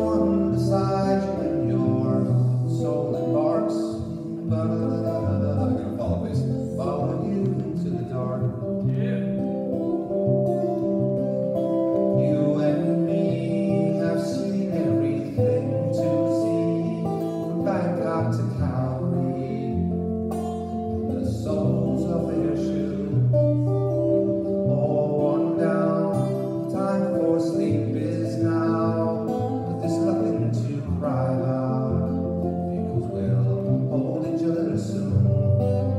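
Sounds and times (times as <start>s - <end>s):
solo guitar playing a tune: 0.0s - 35.9s.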